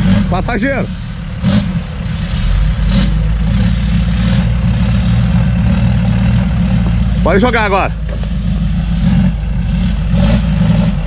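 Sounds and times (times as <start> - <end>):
engine rumbling at low revs: 0.0 - 11.0.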